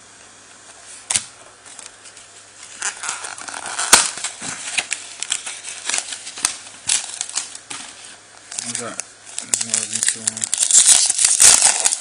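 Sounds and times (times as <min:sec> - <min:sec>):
foil wrapper crinkling: 0:01.7 - 0:12.0.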